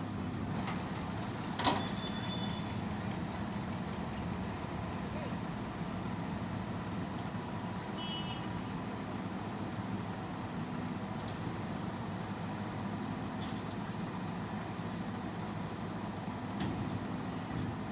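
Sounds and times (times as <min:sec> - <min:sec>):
heavy diesel engine droning: 0:00.0 - 0:17.9.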